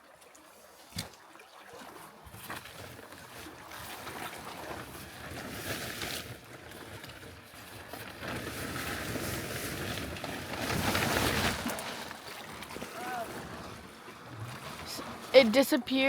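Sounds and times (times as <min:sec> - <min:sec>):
sea swell washing around a boat: 0:00.0 - 0:16.0.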